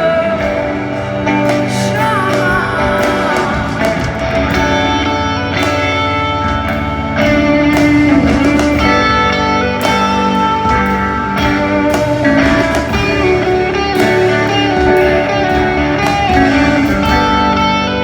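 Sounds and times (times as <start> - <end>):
guitar: 0.0 - 18.0
live band instrumental: 0.0 - 18.0.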